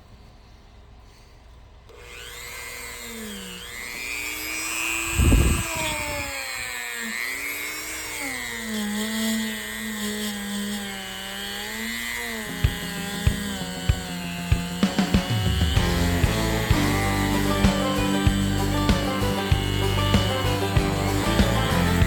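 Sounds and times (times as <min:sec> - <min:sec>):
power tool motor whining: 0:01.9 - 0:22.0.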